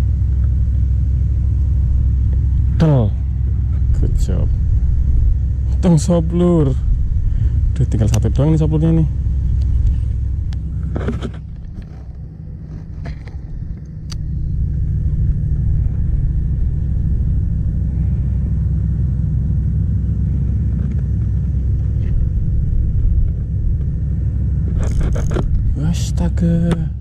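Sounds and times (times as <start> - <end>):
wind buffeting microphone: 3.4 - 25.9.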